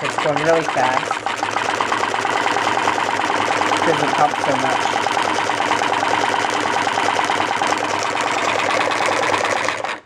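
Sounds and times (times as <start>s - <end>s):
engine rapid mechanical clatter: 0.0s - 10.0s.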